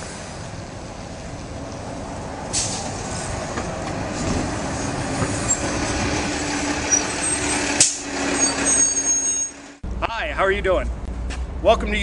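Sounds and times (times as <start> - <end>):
bus engine driving past: 0.0 - 10.1.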